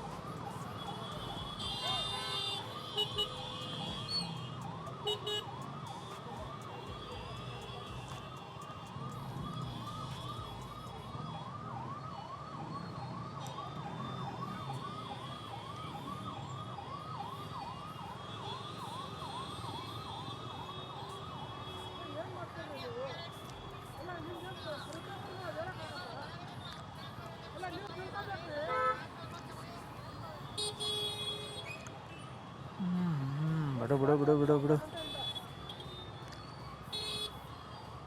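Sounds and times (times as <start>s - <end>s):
emergency siren yelping: 0.0s - 38.0s.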